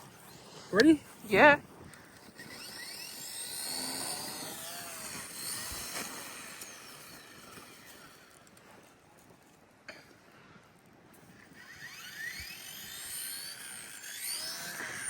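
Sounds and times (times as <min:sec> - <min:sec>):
rc helicopter motors whining: 0:00.0 - 0:09.5, 0:10.7 - 0:15.0.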